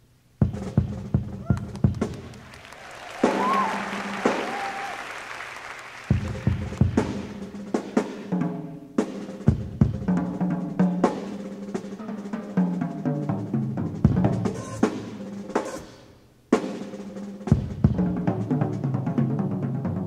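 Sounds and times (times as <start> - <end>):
drum fills on toms: 0.4 - 20.0.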